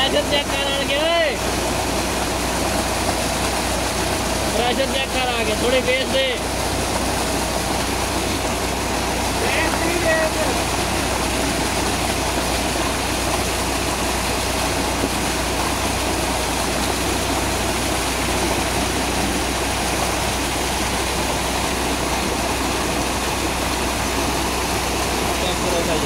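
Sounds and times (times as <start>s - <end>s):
tractor engine humming: 0.0s - 26.0s
water gushing into a tank: 0.0s - 26.0s.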